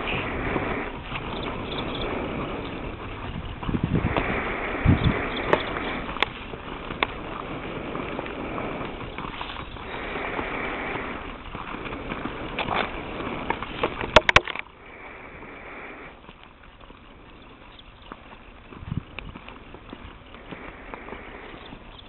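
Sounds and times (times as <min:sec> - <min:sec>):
horse hooves on sand: 0:00.0 - 0:22.0
steady rushing noise: 0:00.0 - 0:22.0.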